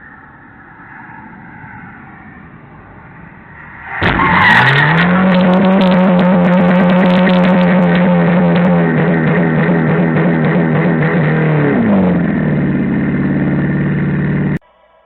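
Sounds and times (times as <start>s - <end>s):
vehicle engine running high: 0.0s - 14.6s.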